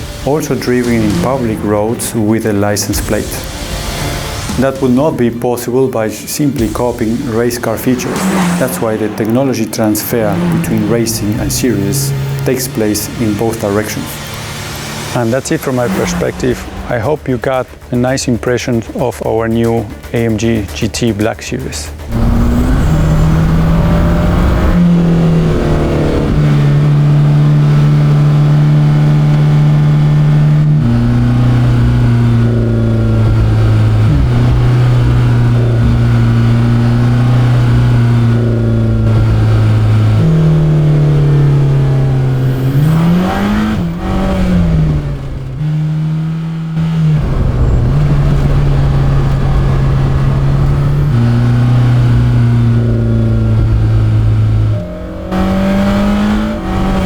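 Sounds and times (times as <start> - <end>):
car engine with gear changes: 0.0 - 18.2, 21.9 - 57.0.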